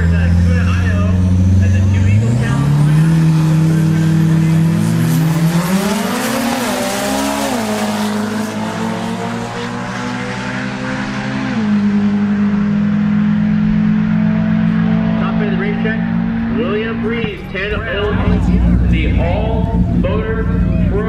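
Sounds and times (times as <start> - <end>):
drag racing cars accelerating: 0.0 - 21.0.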